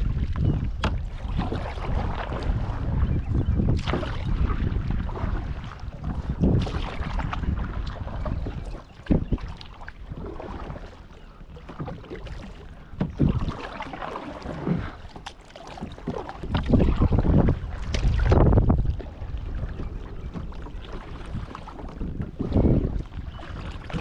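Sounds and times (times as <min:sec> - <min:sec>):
paddle splashing water: 0:00.0 - 0:24.0
wind on microphone: 0:00.0 - 0:24.0.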